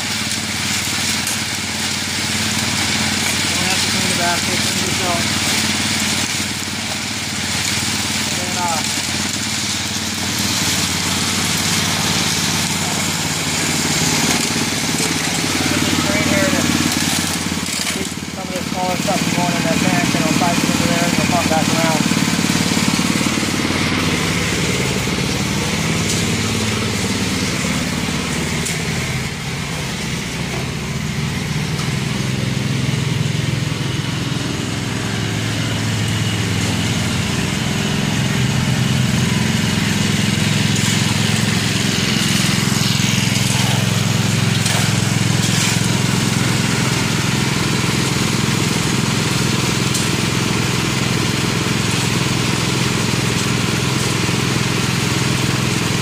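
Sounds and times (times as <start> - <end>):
water splashing through drum: 0.0 - 34.0, 34.6 - 56.0
small gasoline engine running: 0.0 - 56.0.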